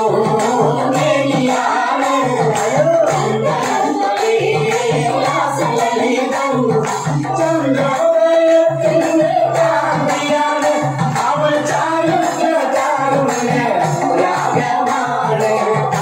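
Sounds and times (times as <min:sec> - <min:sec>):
percussion beat: 0:00.0 - 0:16.0
person singing: 0:00.0 - 0:16.0.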